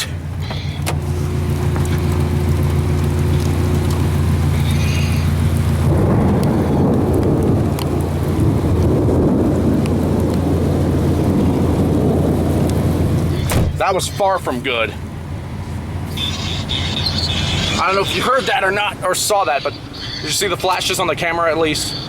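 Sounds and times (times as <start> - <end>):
heavy rain on a car: 0.0 - 22.0
idling car hum: 0.0 - 22.0
thunder rumble: 0.0 - 22.0.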